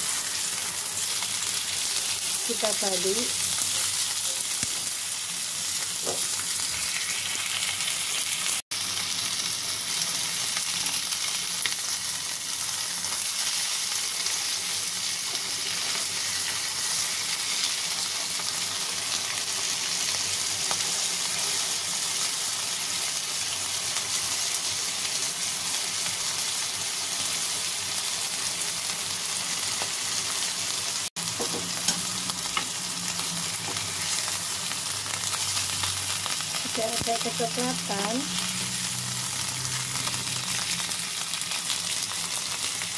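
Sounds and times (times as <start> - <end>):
chicken sizzling in oil: 0.0 - 42.9.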